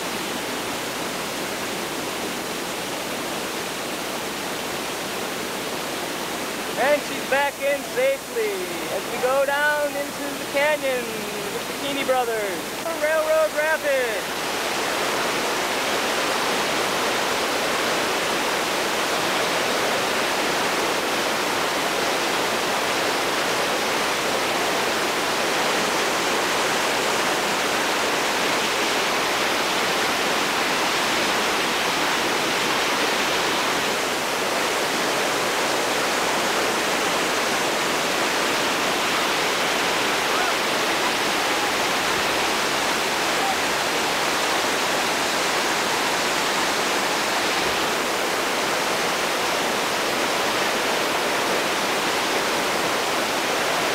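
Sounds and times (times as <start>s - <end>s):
whitewater rushing: 0.0s - 53.9s.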